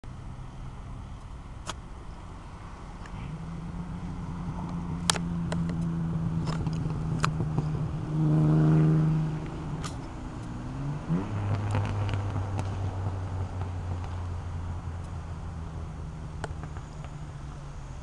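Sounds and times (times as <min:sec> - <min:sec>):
car engine running: 0:00.1 - 0:18.0.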